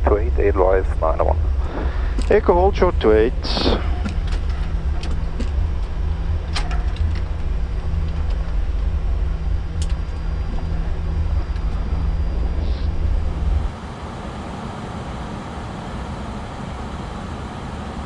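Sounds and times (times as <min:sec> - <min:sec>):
aircraft cockpit rumble: 0:00.0 - 0:18.0
faint steady hum: 0:00.0 - 0:18.0.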